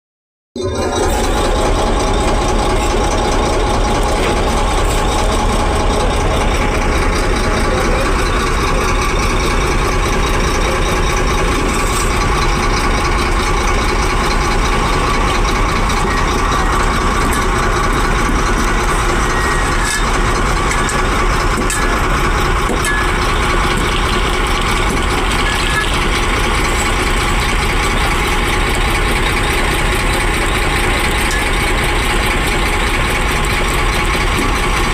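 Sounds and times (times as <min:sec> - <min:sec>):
excavator engine running: 0:00.6 - 0:34.9.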